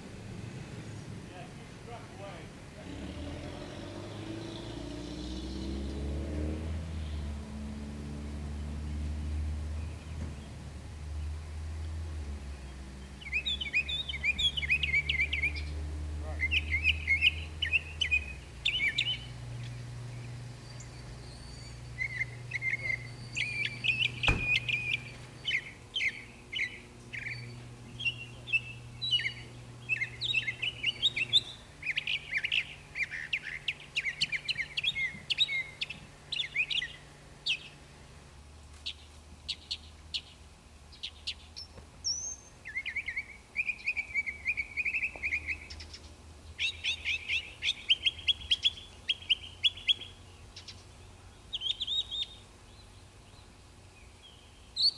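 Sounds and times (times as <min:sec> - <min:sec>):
songbirds chirping and trilling: 0:00.0 - 0:54.9
low steady hum: 0:06.8 - 0:54.9.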